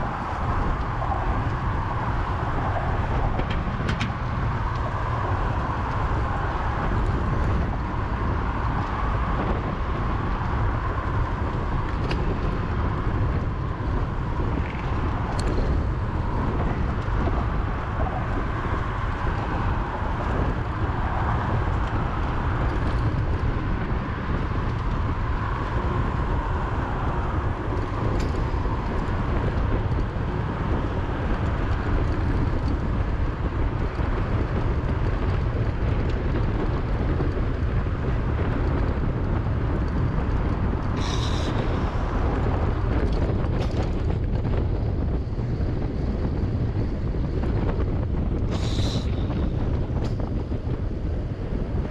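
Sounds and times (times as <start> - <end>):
freeway traffic: 0.0 - 51.9
wind rumble on microphone: 0.0 - 51.9.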